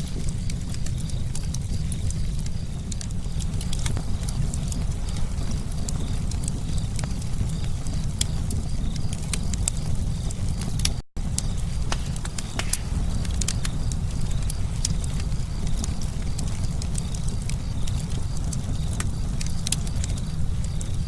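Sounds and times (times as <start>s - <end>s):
campfire low rumble: 0.0s - 21.0s
crackles and pops of burning wood: 0.0s - 21.0s.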